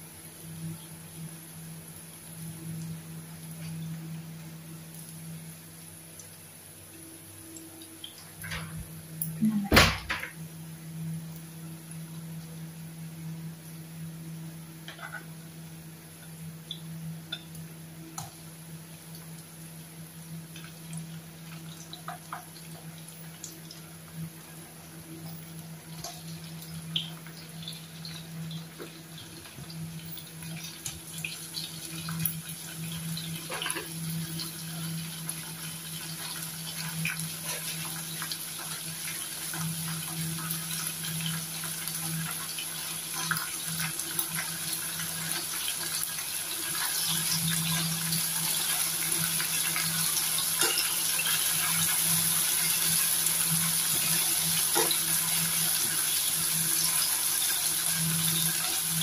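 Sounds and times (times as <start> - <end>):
vegetables sizzling in oil: 10.9 - 59.0.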